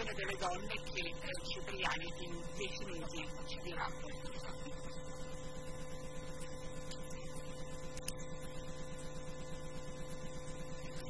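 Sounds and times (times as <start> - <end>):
electrical hum with flutter: 0.0 - 11.0.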